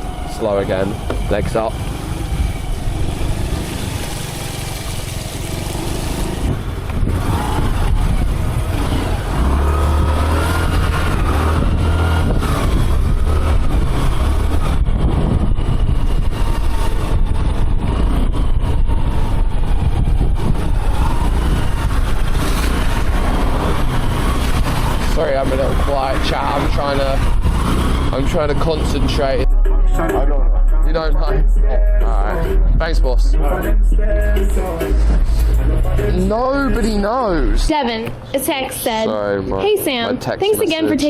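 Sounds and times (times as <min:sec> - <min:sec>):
wind rumble on microphone: 0:00.0 - 0:33.3
motorbike engine: 0:00.0 - 0:38.5
road noise: 0:00.0 - 0:41.0.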